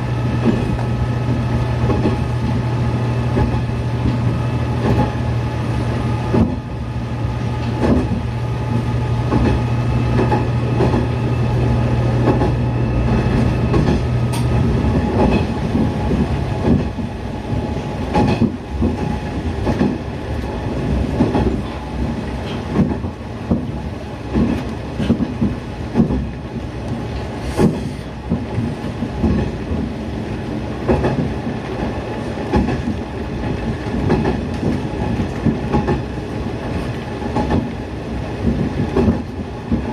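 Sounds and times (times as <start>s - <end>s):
diesel railcar engine: 0.0s - 39.9s.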